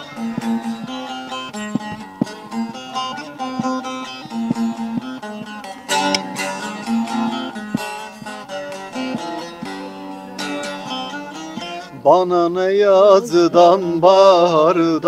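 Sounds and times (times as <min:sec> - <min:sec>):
plucked lute melody: 0:00.0 - 0:15.0
strummed lute chords: 0:00.0 - 0:15.0.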